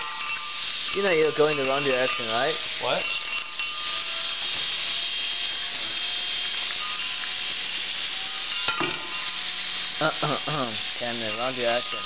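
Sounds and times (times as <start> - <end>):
robot spinner whirring hiss: 0.0 - 12.0.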